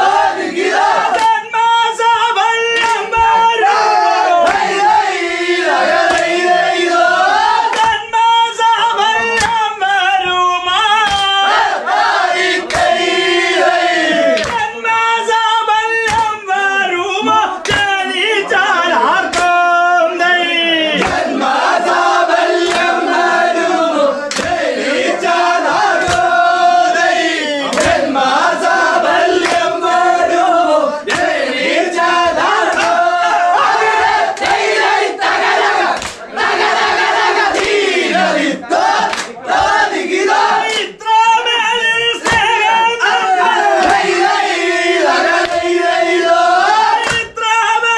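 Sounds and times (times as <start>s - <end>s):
sharp hand claps: 0.0s - 18.4s, 19.2s - 19.9s, 20.9s - 41.1s, 42.2s - 47.6s
men chanting in unison: 0.0s - 47.9s
men singing together: 0.0s - 47.9s.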